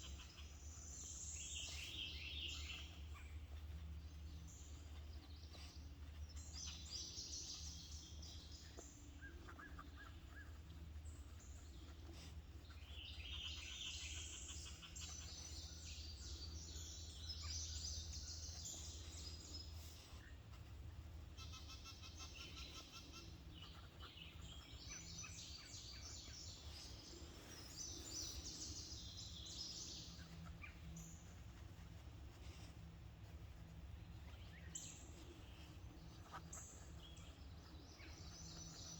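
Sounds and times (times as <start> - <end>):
faint songbirds singing: 0.0 - 38.9
steady low hum: 0.0 - 38.9.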